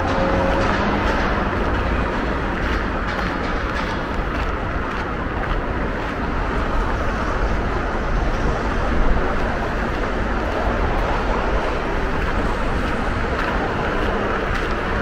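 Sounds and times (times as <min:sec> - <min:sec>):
low traffic rumble: 0:00.0 - 0:15.0
wind buffeting microphone: 0:00.0 - 0:15.0.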